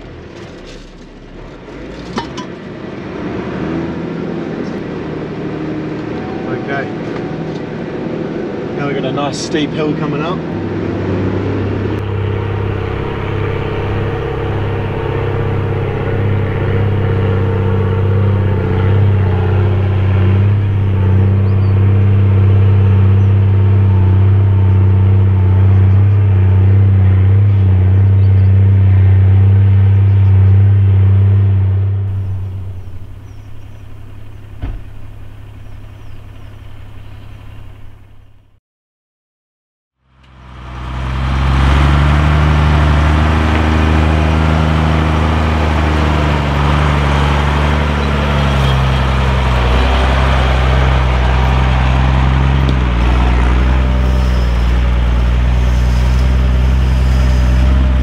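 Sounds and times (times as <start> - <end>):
diesel truck engine droning: 0.0 - 38.6, 40.0 - 58.0.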